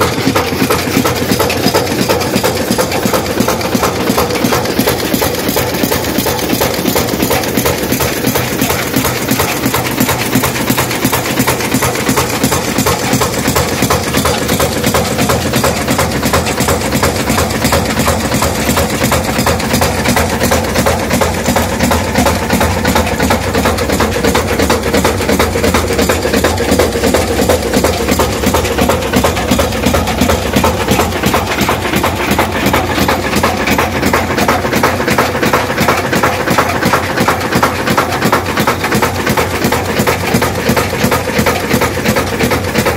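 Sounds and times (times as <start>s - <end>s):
stationary engine clattering: 0.0s - 42.9s.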